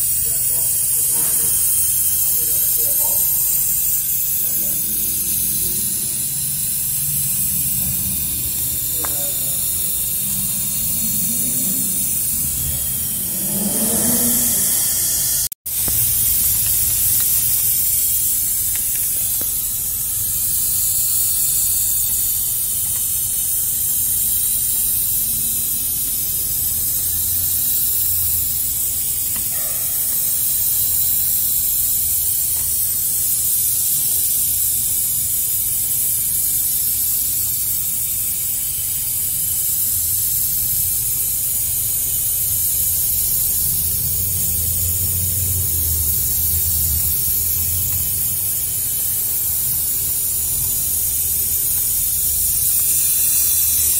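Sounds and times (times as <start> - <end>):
compressed air hissing into tyre: 0.0 - 53.9.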